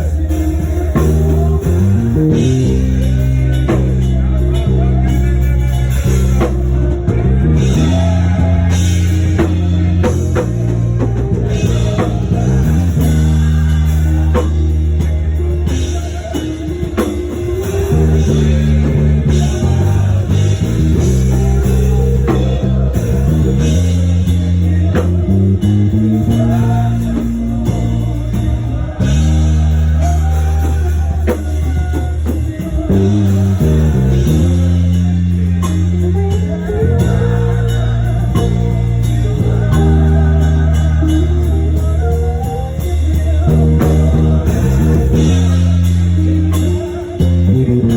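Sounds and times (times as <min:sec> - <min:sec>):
bass guitar line: 0:00.0 - 0:47.9
worship band playing: 0:00.0 - 0:47.9.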